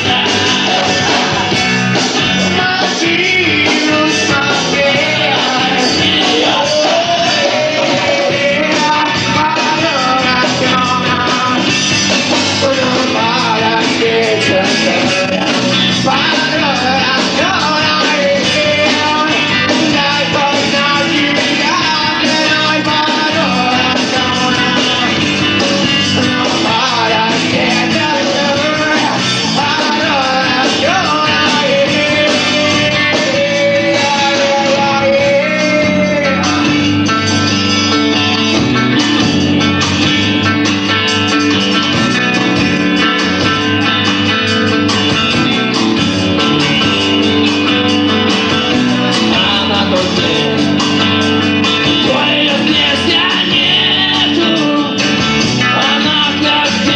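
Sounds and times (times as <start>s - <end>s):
person singing: 0.0s - 40.3s, 41.3s - 56.9s
rock band playing: 0.0s - 56.9s.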